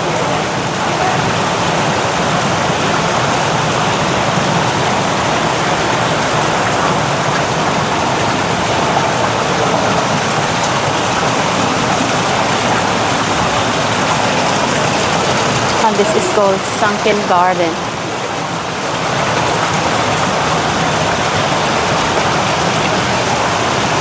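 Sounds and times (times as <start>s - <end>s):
water splashing in water feature: 0.0s - 24.0s.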